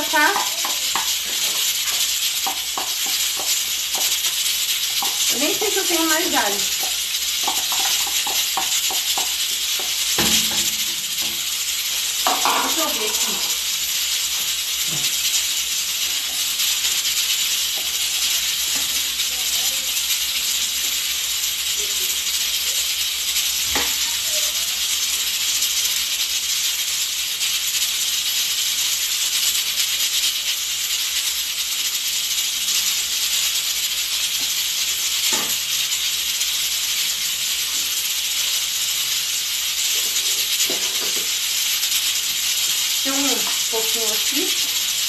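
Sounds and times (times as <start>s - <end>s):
gas stove hissing: 0.0s - 45.0s.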